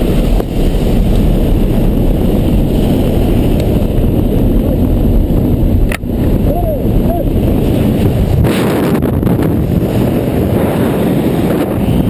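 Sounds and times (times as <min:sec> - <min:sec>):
plane engine rumble: 0:00.0 - 0:12.0
rushing air: 0:00.0 - 0:12.0.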